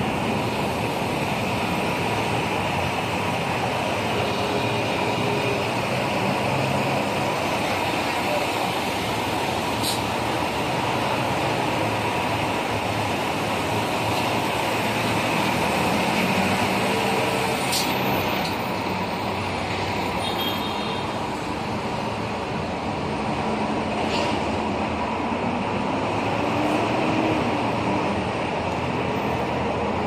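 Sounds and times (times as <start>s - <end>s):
city road traffic: 0.0s - 30.0s.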